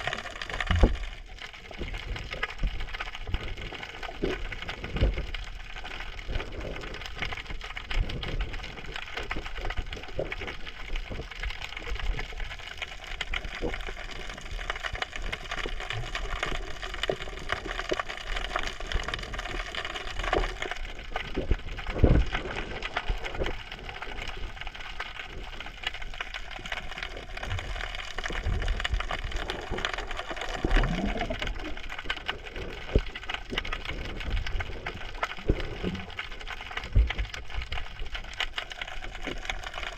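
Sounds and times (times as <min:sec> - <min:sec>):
underwater crackling and clicking: 0:00.0 - 0:39.9.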